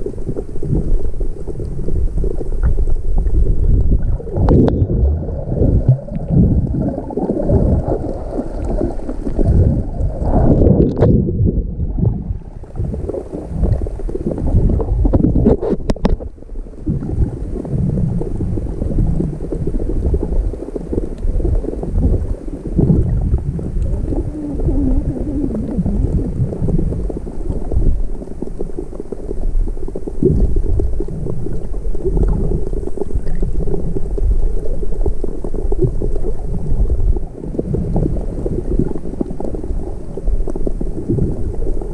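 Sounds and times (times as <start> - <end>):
underwater water rumble with gurgling: 0.0 - 41.9.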